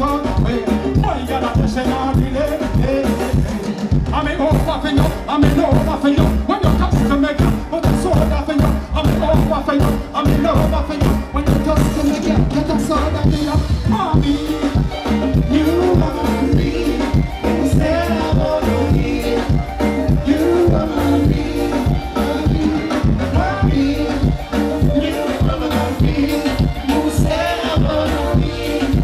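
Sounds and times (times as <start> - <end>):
live band playing: 0.0 - 29.0
person singing: 0.0 - 29.0
steady drum beat: 0.0 - 29.0.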